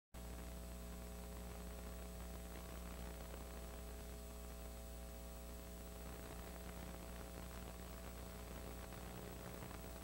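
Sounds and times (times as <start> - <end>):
faint electrical hum with hiss: 0.2 - 10.0.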